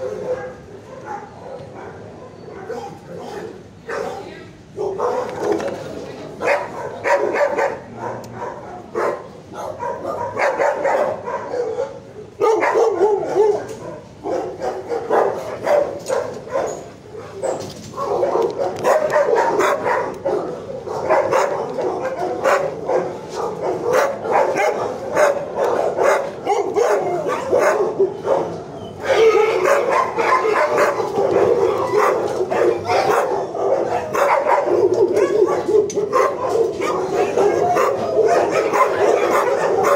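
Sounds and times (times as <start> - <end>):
dogs barking and yipping: 0.0 - 39.9.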